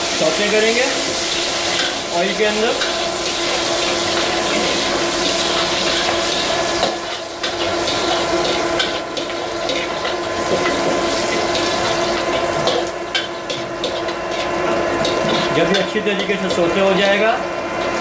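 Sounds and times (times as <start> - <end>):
sizzling in oil: 0.0 - 18.0
metal ladle scraping wok: 1.1 - 17.2.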